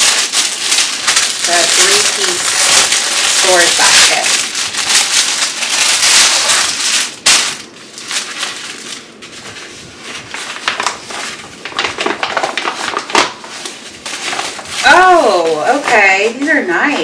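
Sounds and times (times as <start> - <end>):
packaging rustling and crinkling: 0.0 - 17.0.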